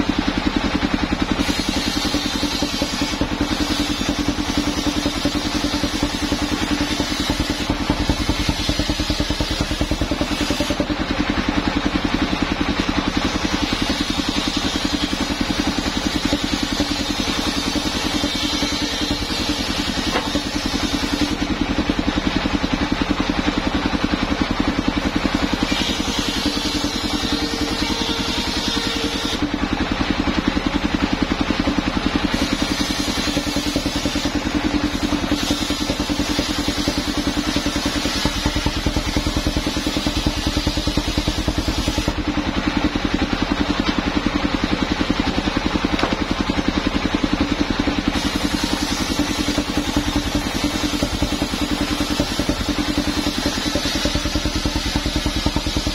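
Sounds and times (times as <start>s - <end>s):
sawmill engine running: 0.0s - 55.9s.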